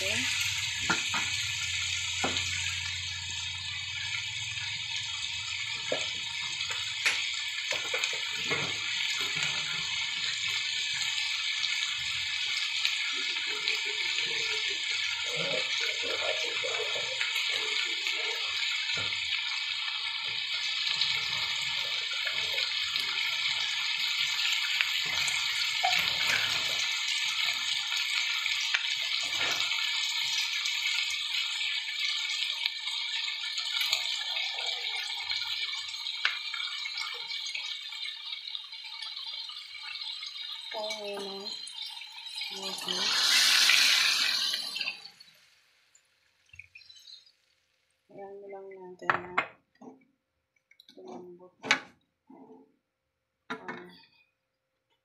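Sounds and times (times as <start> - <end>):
meat sizzling in oil: 0.0 - 47.8.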